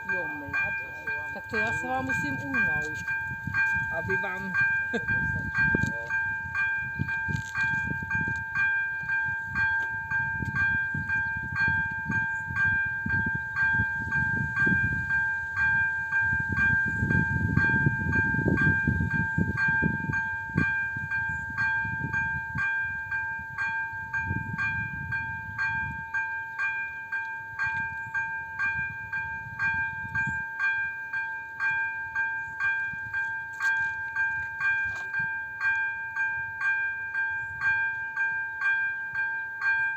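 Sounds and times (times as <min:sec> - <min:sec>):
level crossing bell ringing: 0:00.0 - 0:39.9.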